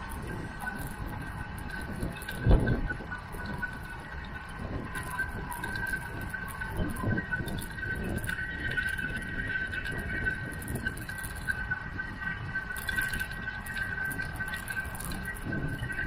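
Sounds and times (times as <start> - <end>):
steady high whine: 0.0 - 16.0
wind rumble on microphone: 0.0 - 16.0.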